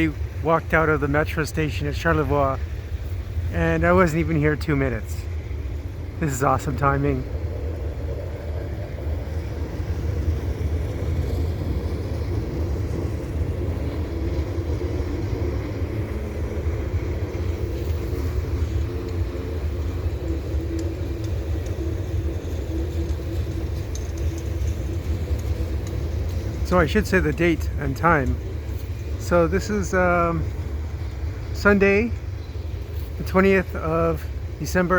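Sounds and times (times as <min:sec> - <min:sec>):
freight train rumbling past: 0:00.0 - 0:34.9.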